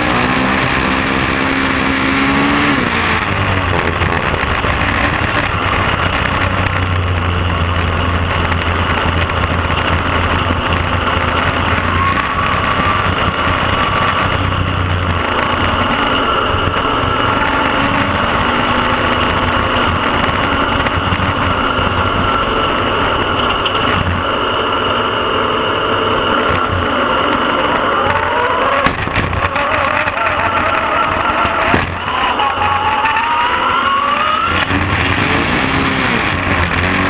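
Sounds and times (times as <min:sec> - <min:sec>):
race car engine at high revs: 0:00.0 - 0:37.0.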